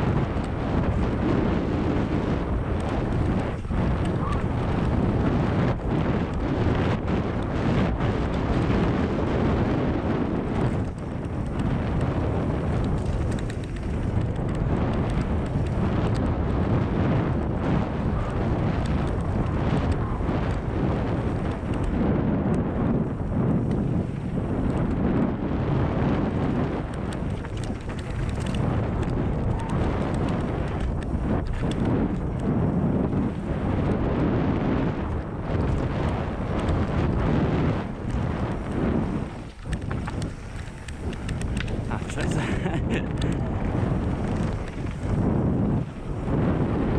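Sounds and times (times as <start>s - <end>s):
bike clicking and knocking over bumps: 0.0s - 34.2s, 35.0s - 46.9s
bike tyres rolling on dirt trail: 0.0s - 46.9s
wind buffeting microphone: 0.0s - 46.9s.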